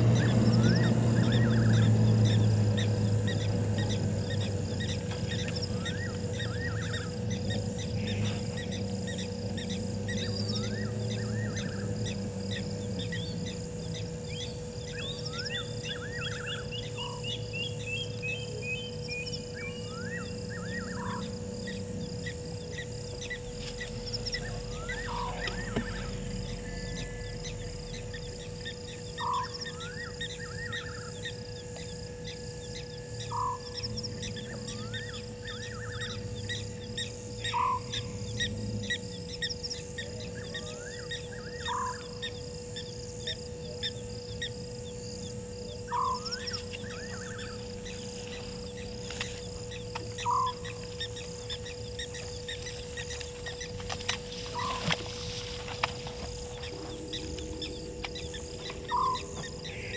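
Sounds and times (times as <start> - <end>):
bird call with rising note: 0.0 - 59.9
insect trilling: 0.0 - 59.9.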